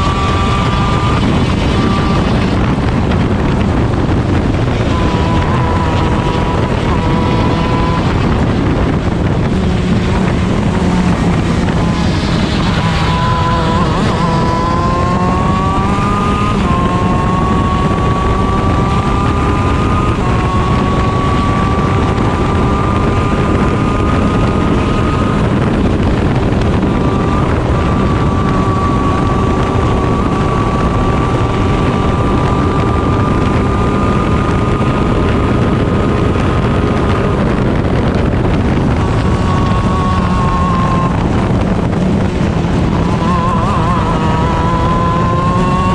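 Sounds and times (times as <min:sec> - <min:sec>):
kart engine revving: 0:00.0 - 0:45.9
wind on microphone: 0:00.0 - 0:45.9.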